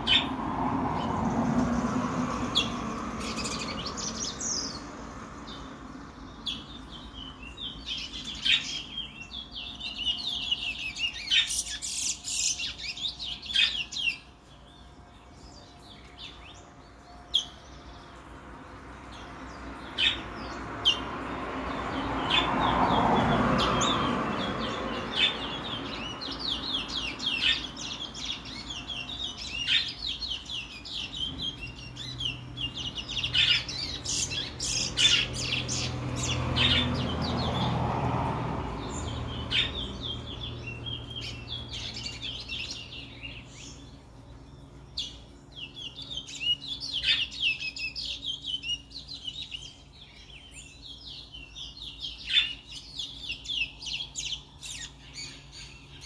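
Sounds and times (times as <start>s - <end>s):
finch singing twittering song: 0.0s - 56.0s.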